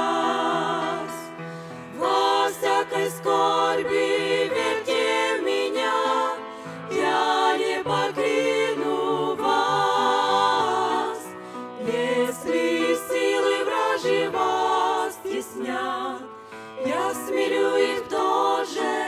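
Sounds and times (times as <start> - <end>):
piano accompaniment: 0.0 - 19.0
women's choir singing a hymn: 0.0 - 19.0.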